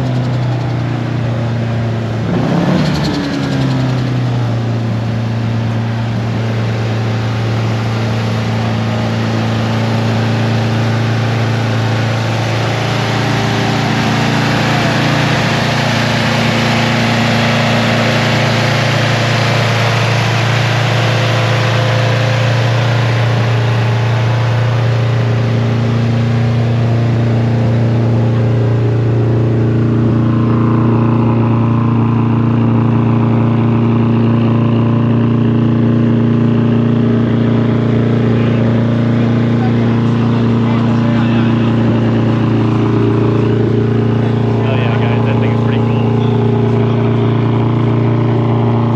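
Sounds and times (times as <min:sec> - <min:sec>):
car engine running steadily: 0:00.0 - 0:48.9
road and wind noise: 0:00.0 - 0:48.9.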